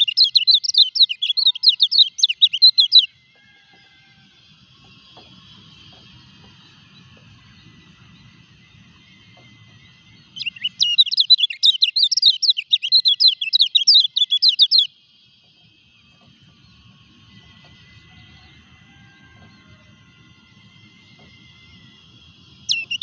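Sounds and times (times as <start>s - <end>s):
bird singing rapid high notes: 0.0s - 23.0s.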